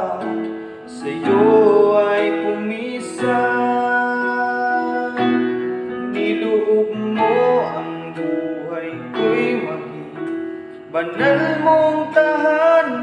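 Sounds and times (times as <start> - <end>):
electronic keyboard chords: 0.0 - 13.0.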